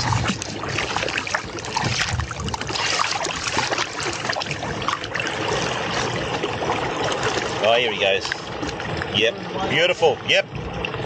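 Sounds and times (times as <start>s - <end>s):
water sloshing against a boat: 0.0s - 11.0s.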